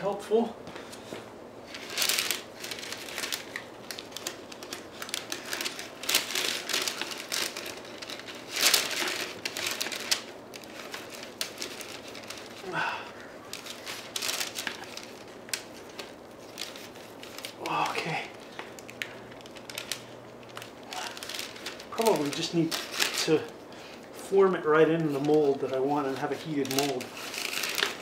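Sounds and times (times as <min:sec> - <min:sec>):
paper liner crinkling: 0:00.8 - 0:28.0.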